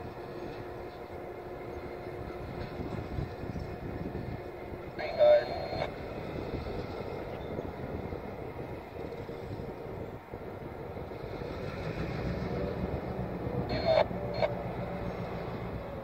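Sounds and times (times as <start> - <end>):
distant diesel locomotives rumbling: 0.0 - 16.0.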